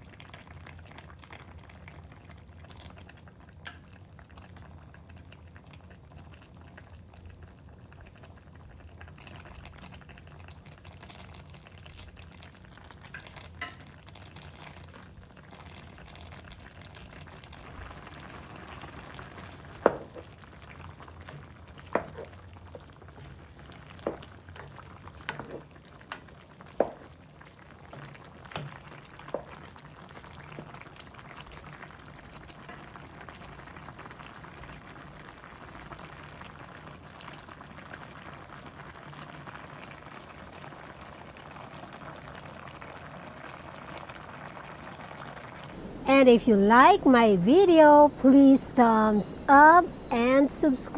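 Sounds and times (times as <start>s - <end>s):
soup boiling and bubbling: 0.0s - 47.0s.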